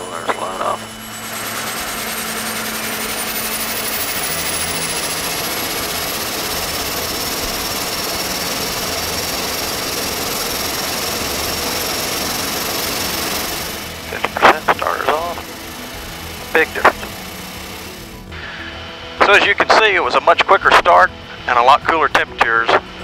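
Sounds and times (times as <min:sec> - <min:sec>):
turboprop engine spooling up: 0:00.0 - 0:19.7.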